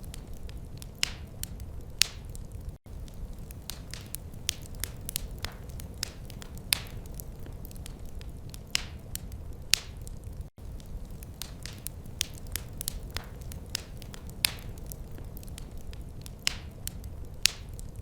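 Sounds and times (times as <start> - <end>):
low steady rumble of fire: 0.0 - 18.0
wood fire pops and snaps: 0.0 - 18.0.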